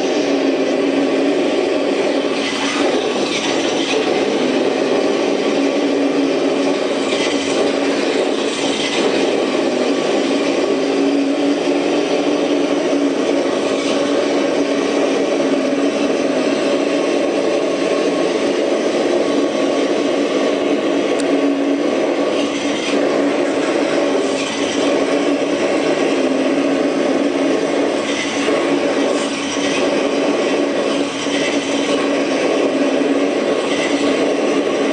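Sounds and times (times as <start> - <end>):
car engine running steadily: 0.0 - 34.9.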